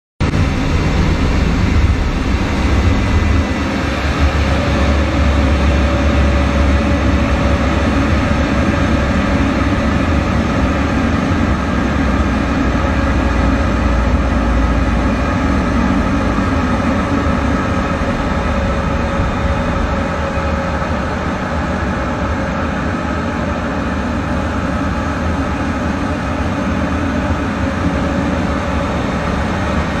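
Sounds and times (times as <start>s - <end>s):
jet engine and airflow noise: 0.2s - 30.0s.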